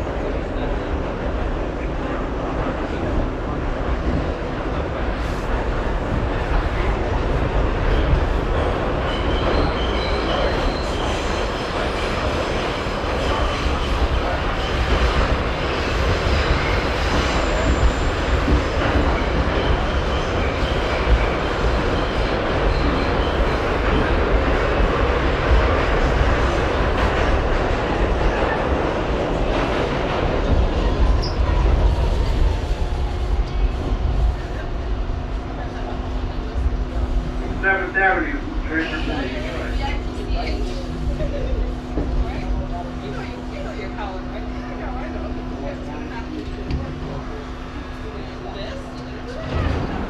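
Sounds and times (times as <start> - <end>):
subway car wheels on rail: 0.0 - 50.0.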